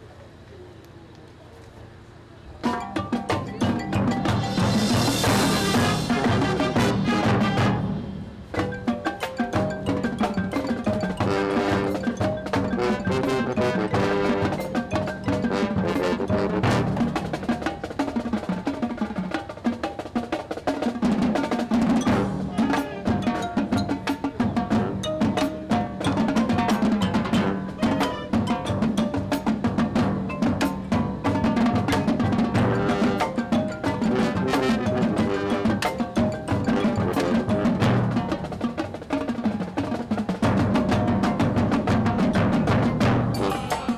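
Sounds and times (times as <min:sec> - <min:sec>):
drums: 0:01.3 - 0:43.9
marching band playing: 0:02.6 - 0:43.9.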